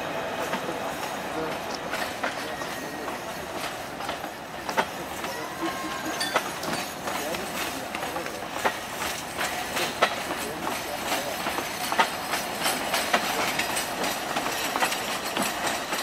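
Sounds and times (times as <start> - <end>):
train rumbling: 0.0 - 16.0
wheels clicking on track: 0.0 - 16.0.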